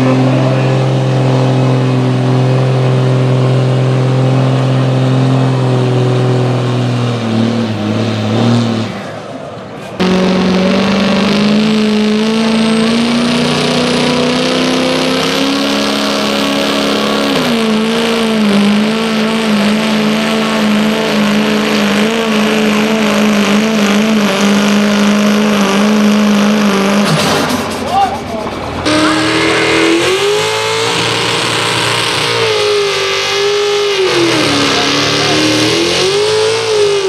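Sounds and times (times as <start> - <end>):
pickup engine revving under load: 0.0 - 37.0.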